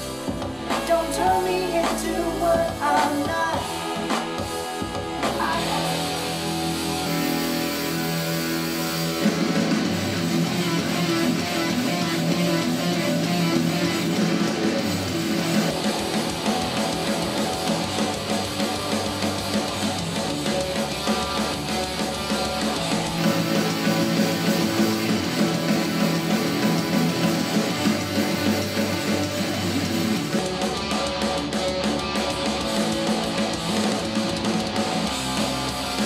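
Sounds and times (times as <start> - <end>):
pop-rock guitar music from speaker: 0.0 - 36.0.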